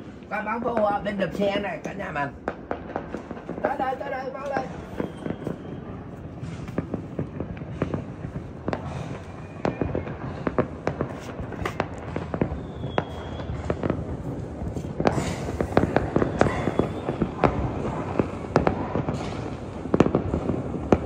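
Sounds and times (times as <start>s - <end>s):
fireworks bangs and pops: 0.0s - 21.0s.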